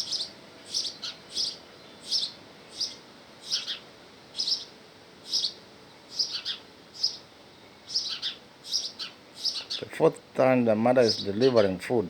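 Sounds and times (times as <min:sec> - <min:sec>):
small bird chirping: 0:00.0 - 0:09.9.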